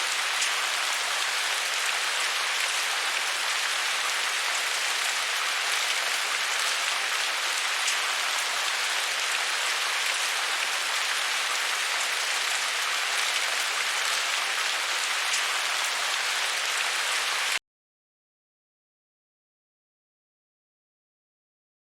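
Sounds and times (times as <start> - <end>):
heavy rain falling: 0.0 - 17.6.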